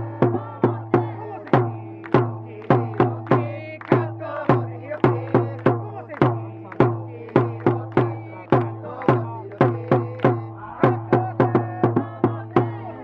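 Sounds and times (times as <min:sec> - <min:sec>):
drum beats: 0:00.0 - 0:13.0
fans chanting in chorus: 0:00.0 - 0:13.0.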